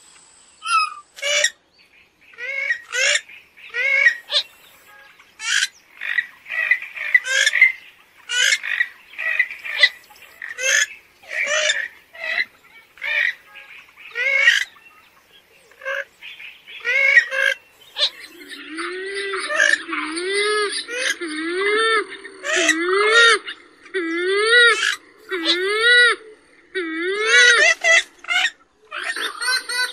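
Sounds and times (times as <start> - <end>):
bird harsh calls: 0.6 - 29.9.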